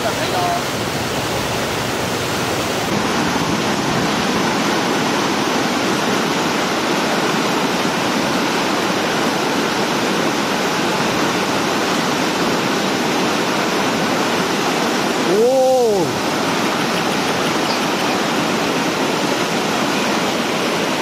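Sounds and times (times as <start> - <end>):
floodwater rushing over dam: 0.0 - 21.0.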